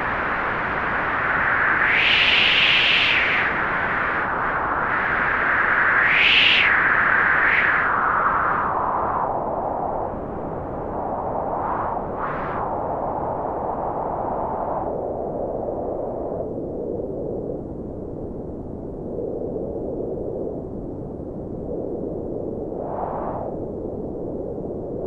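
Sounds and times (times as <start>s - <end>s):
rushing wind: 0.0s - 25.0s.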